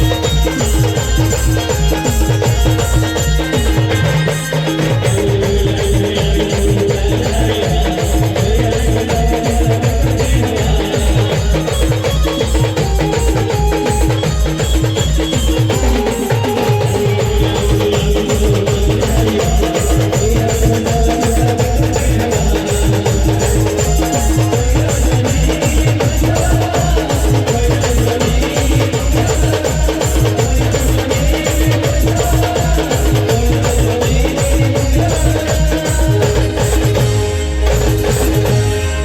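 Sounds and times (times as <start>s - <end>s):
band playing folk dance music: 0.0s - 39.0s
fast driving drum beat: 0.0s - 39.0s
held melody line: 0.0s - 39.0s.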